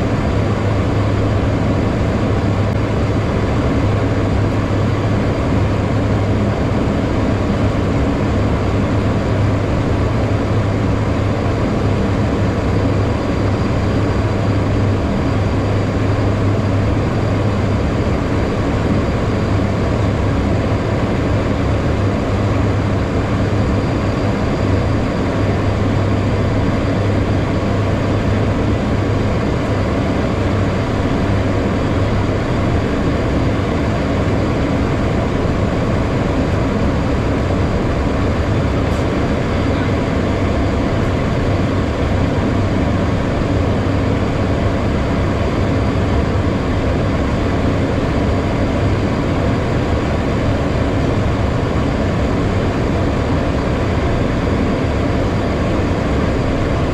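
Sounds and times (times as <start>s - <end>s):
airflow rushing over cockpit: 0.0s - 56.9s
jet engines humming: 0.0s - 56.9s.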